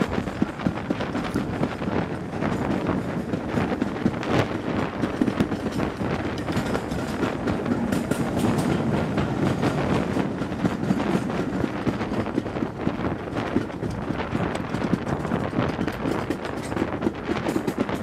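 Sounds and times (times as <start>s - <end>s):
steam locomotive exhaust beats: 0.0s - 18.0s
train wheels clattering on rails: 0.0s - 18.0s.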